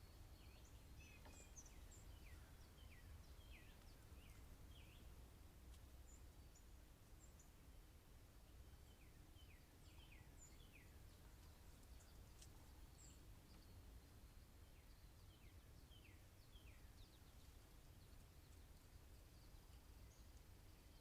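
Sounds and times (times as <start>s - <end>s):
low background hiss: 0.0s - 21.0s.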